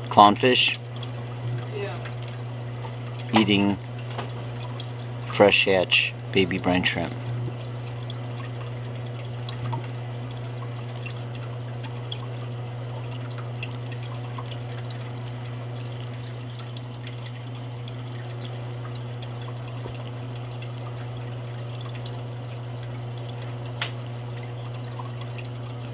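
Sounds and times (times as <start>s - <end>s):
aquarium air bubbling: 0.0s - 25.9s
low steady hum: 0.0s - 25.9s.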